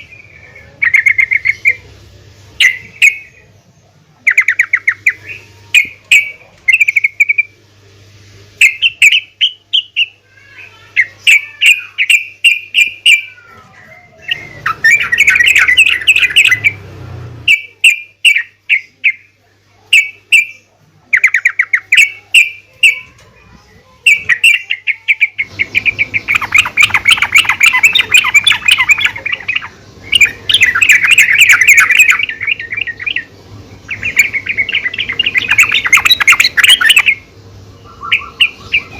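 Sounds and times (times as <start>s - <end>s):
bird chattering calls: 0.0s - 3.6s, 4.2s - 7.6s, 8.6s - 16.8s, 17.4s - 23.2s, 23.9s - 38.9s.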